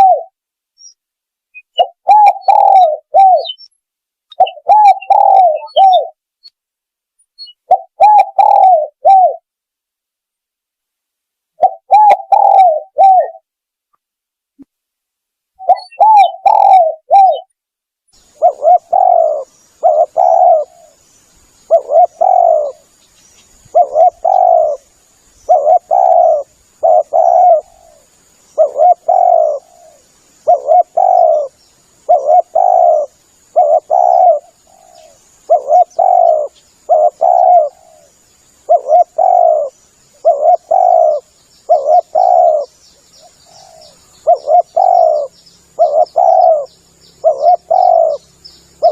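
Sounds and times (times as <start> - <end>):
dove cooing: 0.0 - 0.4, 1.8 - 3.6, 4.3 - 6.2, 7.5 - 9.5, 11.6 - 13.5, 15.6 - 17.5, 18.2 - 21.0, 21.6 - 22.9, 23.6 - 48.9.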